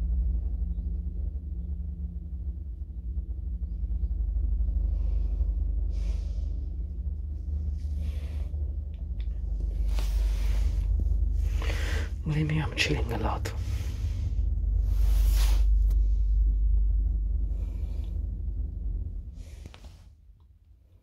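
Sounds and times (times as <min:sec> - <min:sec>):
elevator rumbling and humming: 0:00.0 - 0:20.4.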